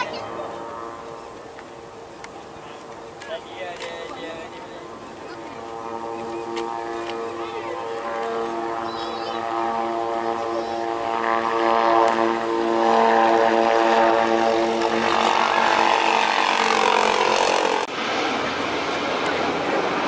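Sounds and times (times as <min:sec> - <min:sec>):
propeller aircraft flying past: 0:00.0 - 0:20.0.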